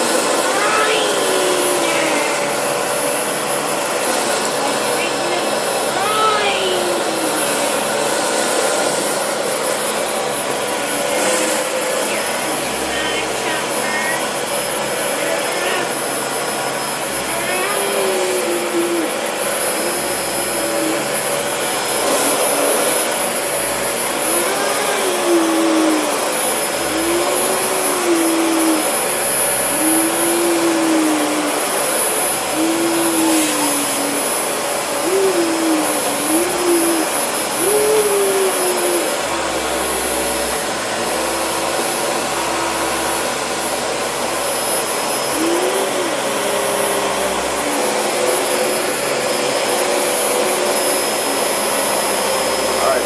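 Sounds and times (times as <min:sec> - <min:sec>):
vacuum cleaner whining: 0:00.0 - 0:53.0.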